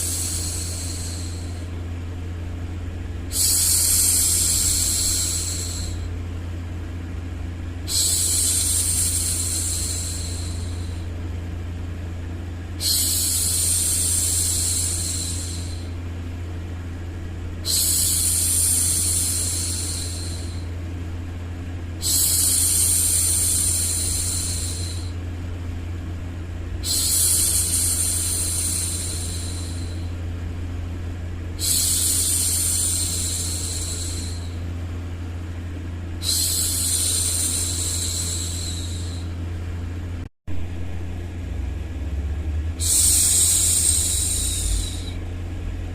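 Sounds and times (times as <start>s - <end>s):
white noise rumble: 0.0s - 45.9s.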